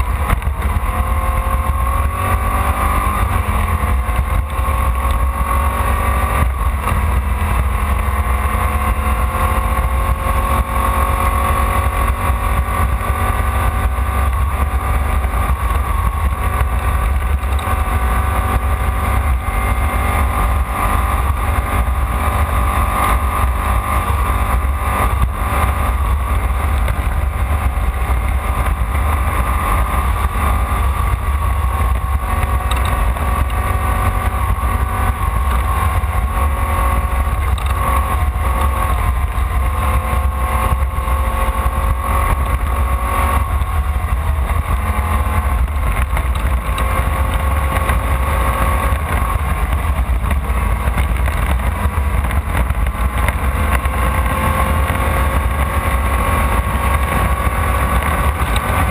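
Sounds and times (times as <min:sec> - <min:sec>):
heavy low rumble: 0:00.0 - 0:58.9
race car engine running hard: 0:00.0 - 0:58.9.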